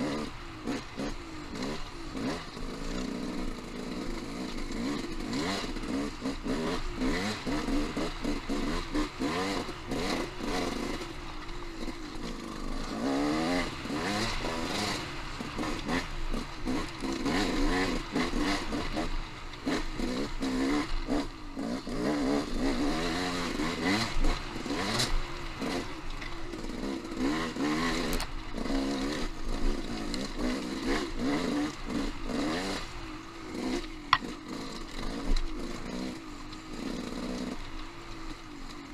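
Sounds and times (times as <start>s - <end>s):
off-road motorcycle engine revving: 0.0s - 38.9s.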